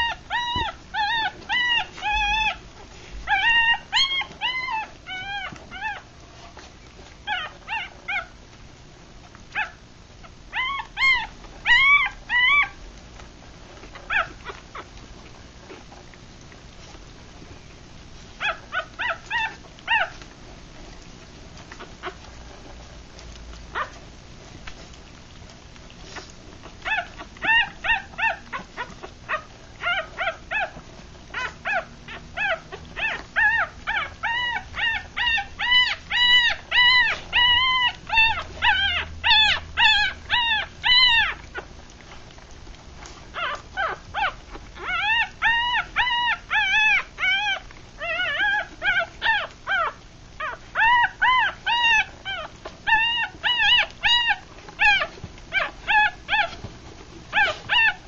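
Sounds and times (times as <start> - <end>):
puppies squeaking and crying: 0.0 - 8.4, 9.2 - 12.9, 13.7 - 58.0.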